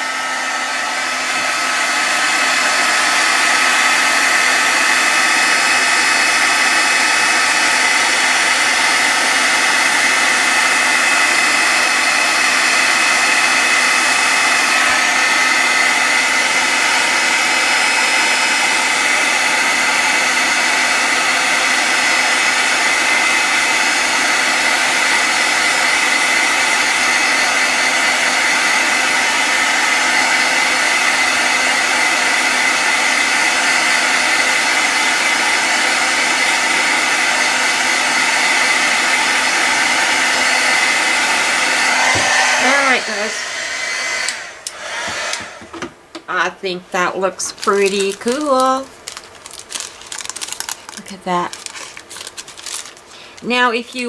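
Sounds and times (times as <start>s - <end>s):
hot-air dryer blowing with high whine: 0.0s - 54.0s.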